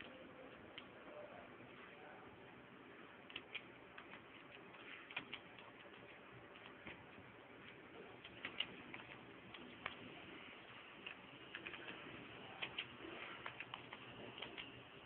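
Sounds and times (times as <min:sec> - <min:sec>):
quiet hiss: 0:00.0 - 0:15.0.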